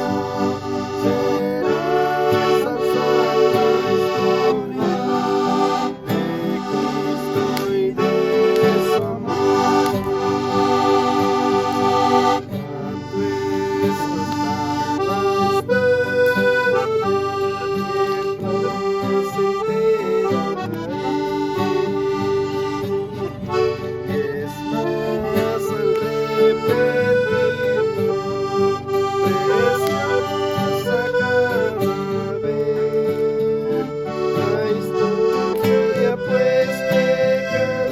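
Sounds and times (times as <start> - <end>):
accordion melody over chords: 0.0 - 37.9.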